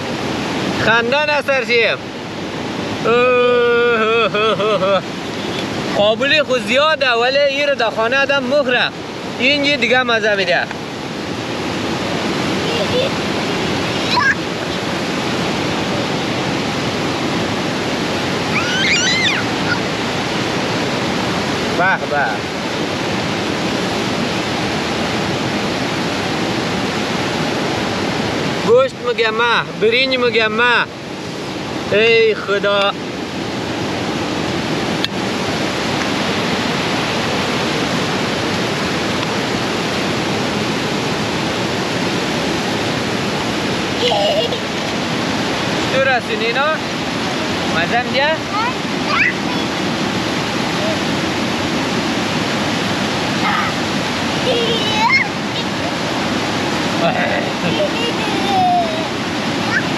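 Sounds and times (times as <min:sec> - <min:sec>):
waterfall rushing over rocks: 0:00.0 - 0:59.9.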